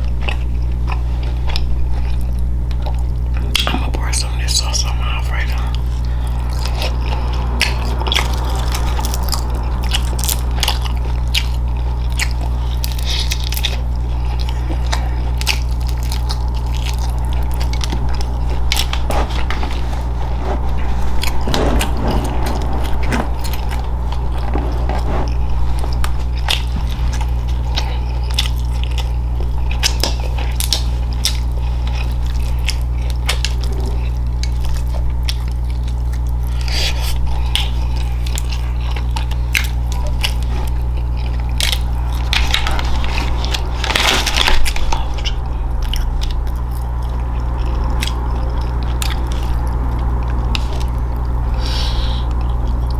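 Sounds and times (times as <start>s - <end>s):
chewing and biting food: 0.0s - 52.9s
steady low hum: 0.0s - 52.9s.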